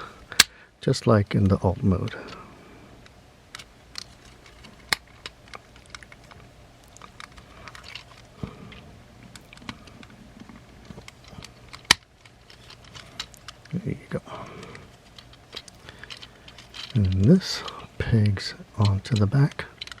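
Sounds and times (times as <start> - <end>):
plastic toy parts clicking: 3.5 - 20.0.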